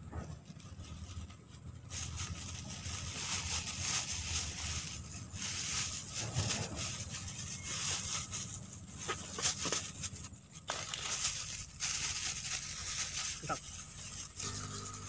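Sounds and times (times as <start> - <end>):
gloved hands rustling: 0.2 - 15.0.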